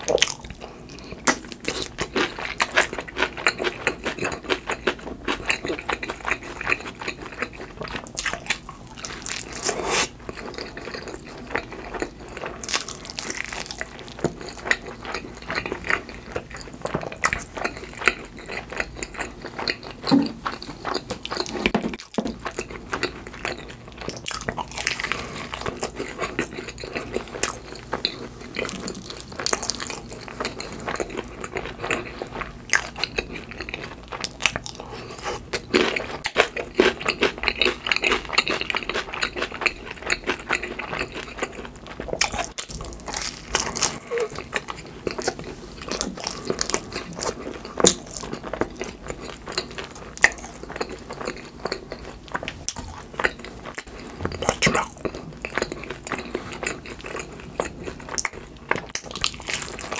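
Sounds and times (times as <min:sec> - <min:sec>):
crunchy pizza being chewed: 0:00.0 - 0:59.9.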